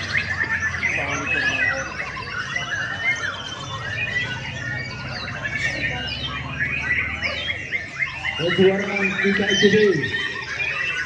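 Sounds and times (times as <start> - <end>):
caged songbirds singing: 0.0 - 11.0.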